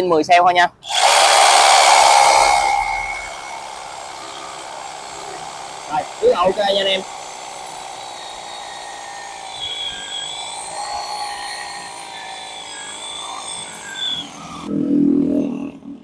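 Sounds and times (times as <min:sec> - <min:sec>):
rotary hammer drilling into concrete: 0:00.8 - 0:14.7.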